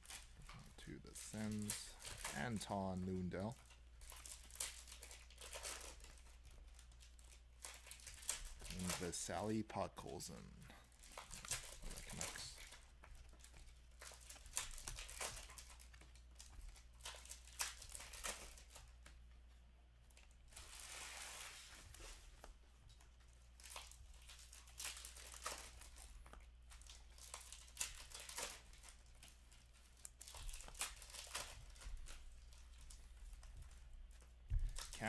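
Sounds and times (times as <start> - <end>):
soft rustle of cards: 0.0 - 35.0.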